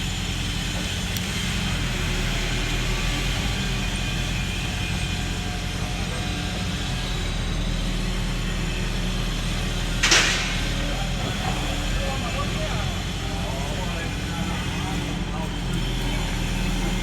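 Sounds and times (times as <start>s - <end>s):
diesel machinery droning: 0.0s - 17.0s.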